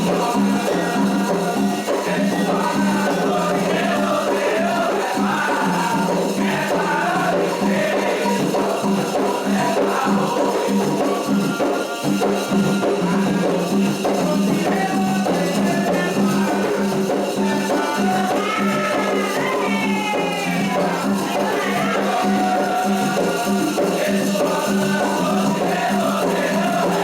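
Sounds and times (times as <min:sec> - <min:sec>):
hand drums beating: 0:00.0 - 0:27.0
shaker percussion rattling: 0:00.0 - 0:27.0
voices singing: 0:00.0 - 0:27.0.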